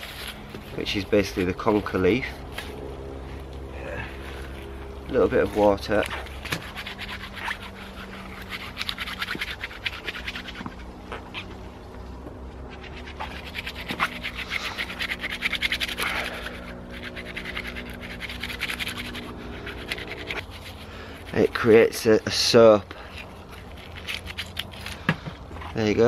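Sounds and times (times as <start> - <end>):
hands rubbing wet leaves: 0.0 - 26.0.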